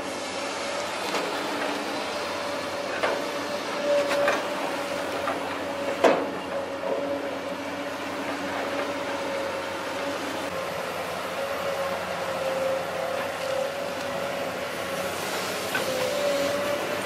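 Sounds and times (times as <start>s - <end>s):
excavator whining: 0.0s - 17.0s.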